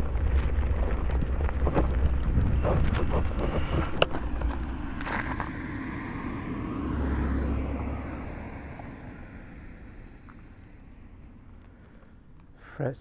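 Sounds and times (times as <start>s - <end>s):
wind rumble on microphone: 0.0s - 10.8s
vehicle passing: 0.0s - 12.4s.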